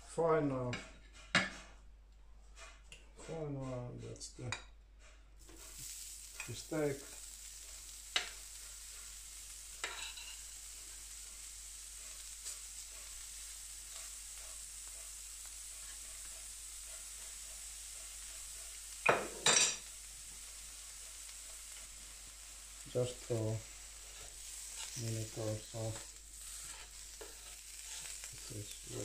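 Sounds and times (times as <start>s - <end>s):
food sizzling on a griddle: 5.4s - 29.0s.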